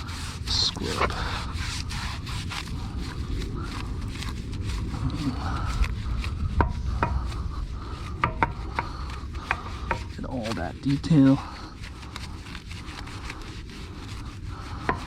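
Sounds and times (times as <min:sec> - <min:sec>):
brush scrubbing car wheel: 0:00.0 - 0:15.0.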